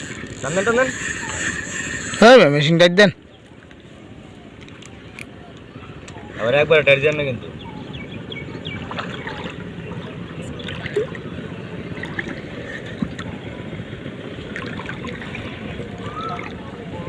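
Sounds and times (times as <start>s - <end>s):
water and boat noise: 0.0s - 17.0s.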